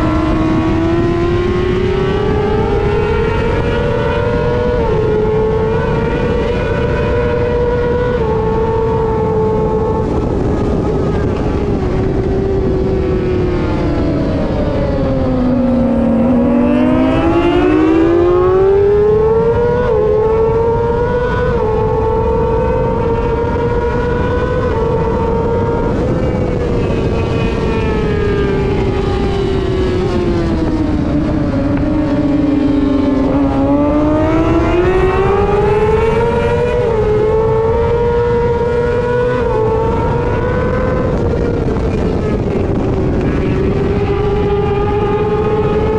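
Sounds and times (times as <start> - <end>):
race motorcycle engine revving: 0.0 - 45.9
wind rush: 0.0 - 45.9.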